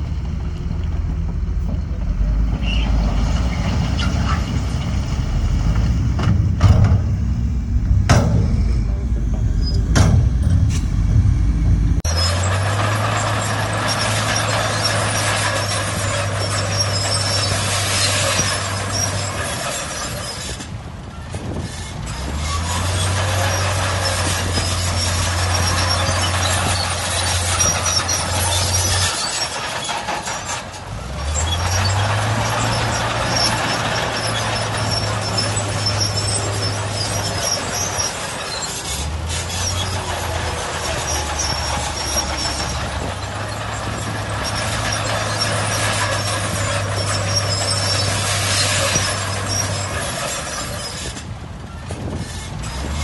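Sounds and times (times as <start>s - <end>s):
bulldozer diesel engine: 0.0s - 53.0s
steel tracks clattering and squealing: 0.0s - 53.0s.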